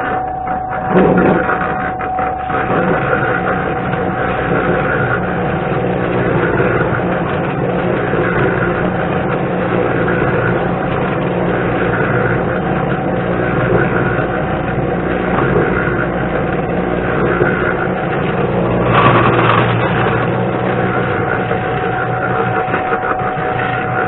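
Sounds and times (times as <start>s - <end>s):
concrete mixer churning: 0.0s - 24.0s.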